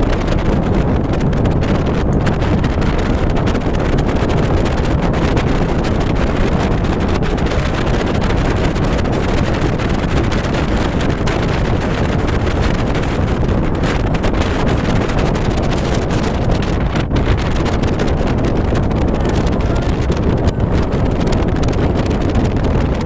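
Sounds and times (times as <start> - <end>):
wind blowing across microphone: 0.0 - 23.0.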